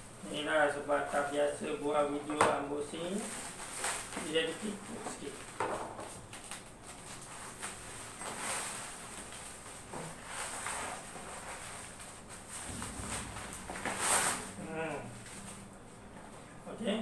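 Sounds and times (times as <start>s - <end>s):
plastic bag rustling: 0.0s - 16.3s.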